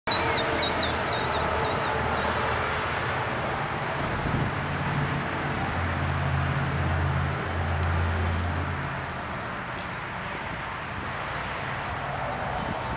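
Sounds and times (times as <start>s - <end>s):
traffic: 0.0s - 12.9s
low engine hum: 0.1s - 12.9s.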